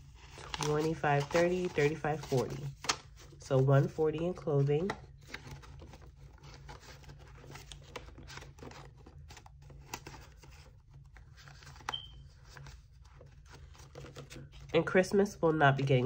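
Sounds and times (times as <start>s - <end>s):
banknotes rustling and crinkling: 0.0s - 16.0s.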